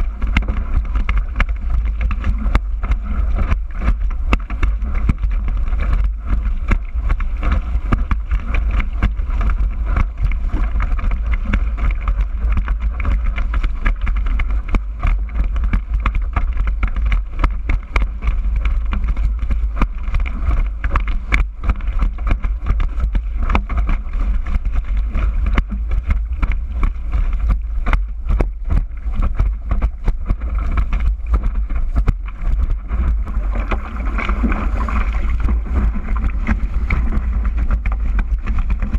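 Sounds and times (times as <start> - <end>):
board slapping against water: 0.0 - 38.9
heavy rumble: 0.0 - 38.9
wind buffeting microphone: 0.0 - 38.9.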